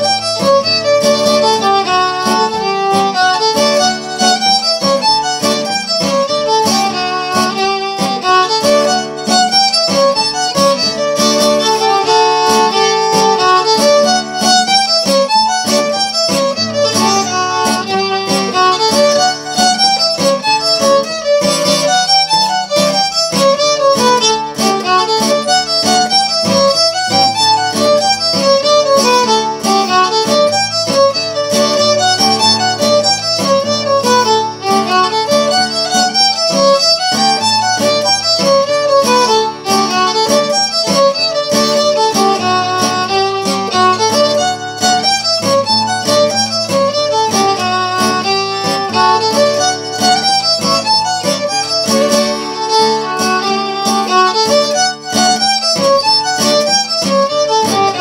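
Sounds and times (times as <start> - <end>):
fiddle melody: 0.0 - 58.0
strummed acoustic guitar: 0.0 - 58.0.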